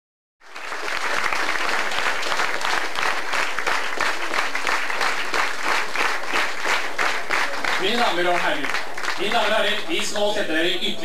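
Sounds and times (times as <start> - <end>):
audience applauding: 0.4 - 10.2.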